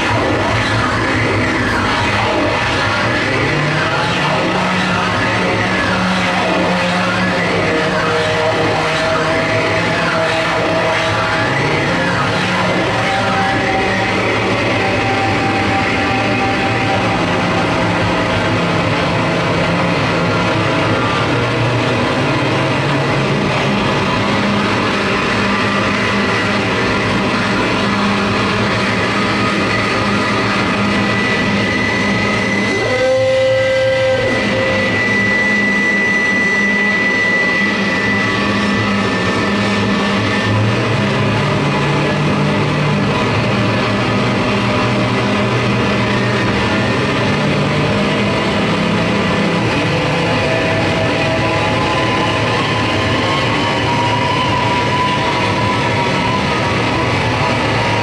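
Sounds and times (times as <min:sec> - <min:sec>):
dense electronic noise: 0:00.0 - 0:58.0
held droning tones: 0:00.0 - 0:58.0
lower drone: 0:00.0 - 0:58.0.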